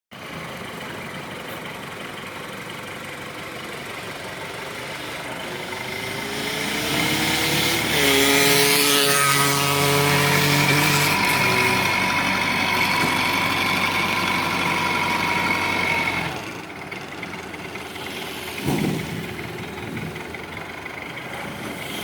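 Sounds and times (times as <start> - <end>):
heavy equipment diesel engine: 0.1 - 22.0.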